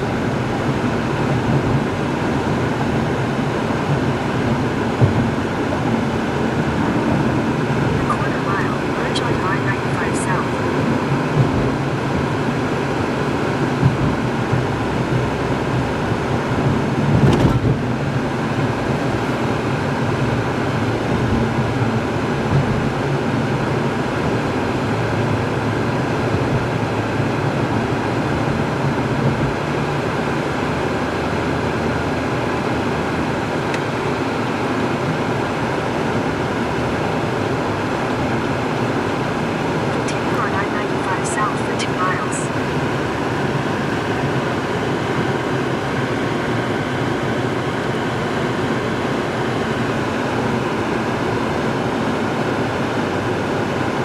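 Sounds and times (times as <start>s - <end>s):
car road noise from inside: 0.0s - 54.0s.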